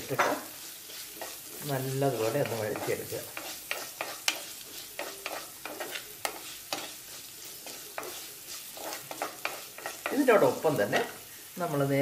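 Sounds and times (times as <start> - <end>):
wooden spatula scraping a clay pot: 0.0 - 10.4
onions sizzling in oil: 0.0 - 12.0.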